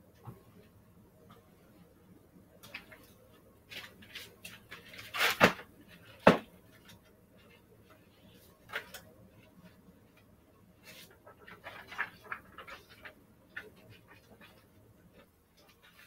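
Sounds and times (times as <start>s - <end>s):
papers and objects rustling: 2.6s - 16.0s.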